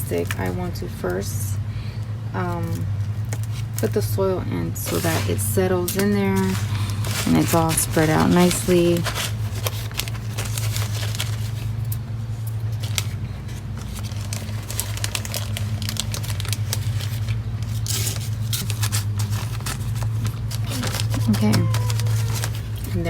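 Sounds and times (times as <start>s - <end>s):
steady low hum: 0.0s - 23.0s
plastic rustling and crinkling: 2.4s - 23.0s.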